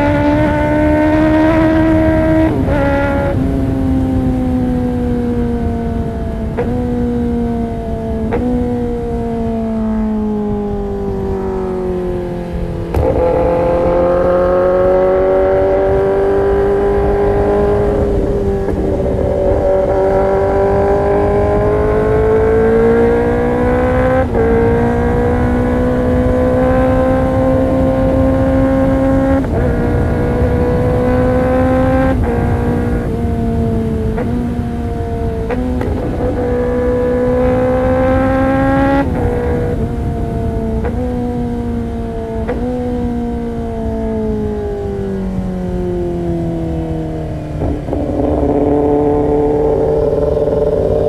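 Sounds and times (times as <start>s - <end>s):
motorcycle engine changing gears: 0.0s - 51.0s.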